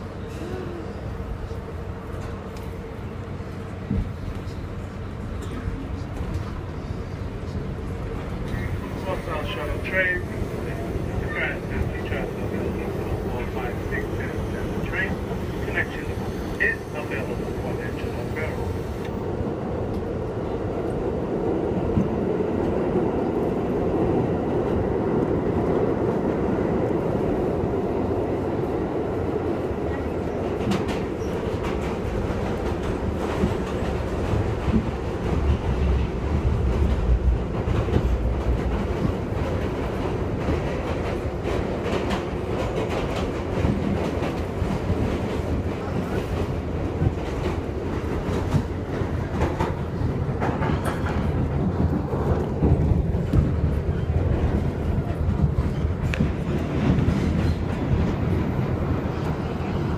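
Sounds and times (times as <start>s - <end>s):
subway train rumbling in tunnel: 0.0s - 59.9s.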